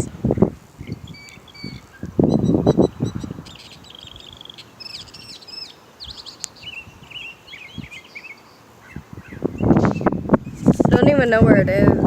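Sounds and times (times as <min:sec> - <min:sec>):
mockingbird singing chirping phrases: 0:00.3 - 0:11.3.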